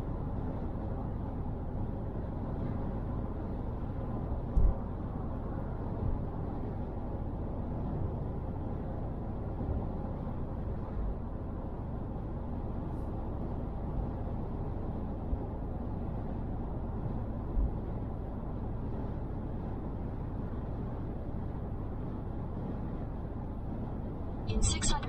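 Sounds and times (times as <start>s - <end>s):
car road and tyre noise: 0.0s - 25.0s.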